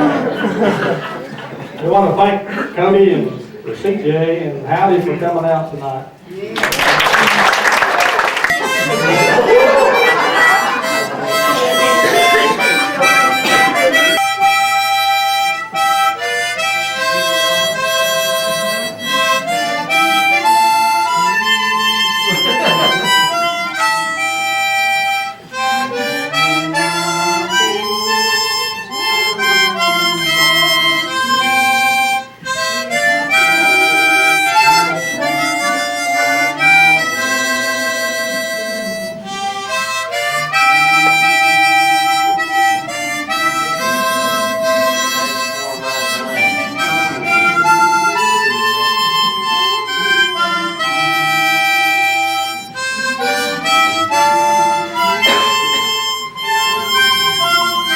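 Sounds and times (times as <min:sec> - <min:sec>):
harmonica melody: 0:06.8 - 0:57.9.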